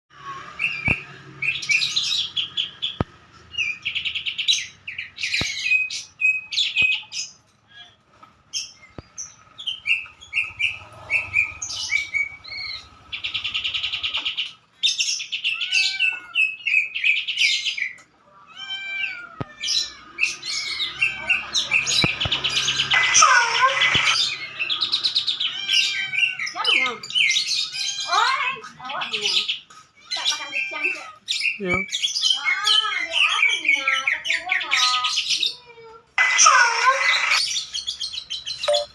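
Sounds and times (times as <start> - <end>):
songbird singing: 0.2 - 18.1, 19.7 - 35.5, 36.5 - 38.9.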